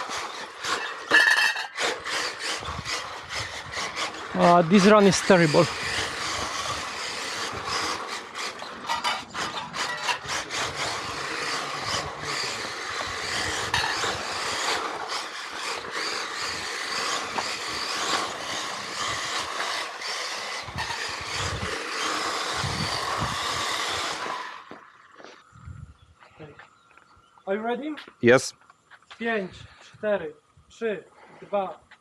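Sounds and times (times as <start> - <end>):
rc car tyre and drivetrain noise: 0.0 - 27.4.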